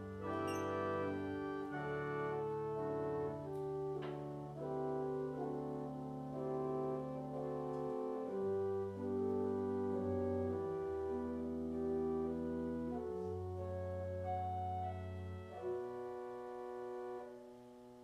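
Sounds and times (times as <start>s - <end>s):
slow keyboard chords: 0.0s - 18.0s.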